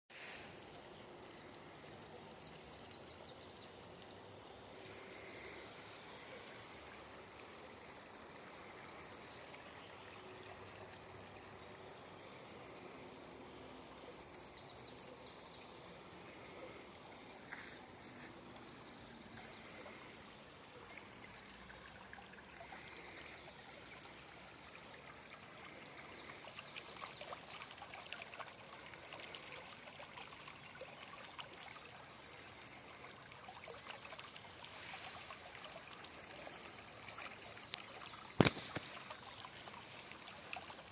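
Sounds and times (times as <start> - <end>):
brook trickling: 0.1 - 40.9.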